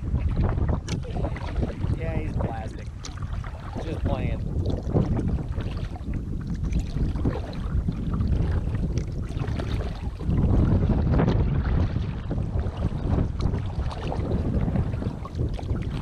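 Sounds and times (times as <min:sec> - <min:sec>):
water splashing and lapping: 0:00.0 - 0:16.0
wind rumbling on microphone: 0:00.0 - 0:16.0.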